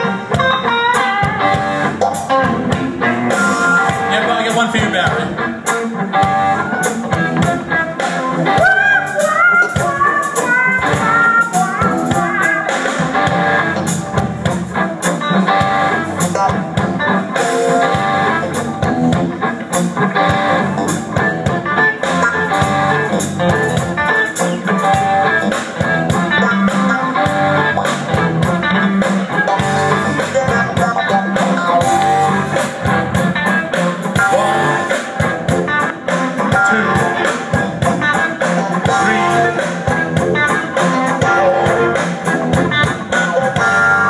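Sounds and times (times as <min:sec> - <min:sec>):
drums: 0:00.0 - 0:44.0
electric guitar: 0:00.0 - 0:44.0.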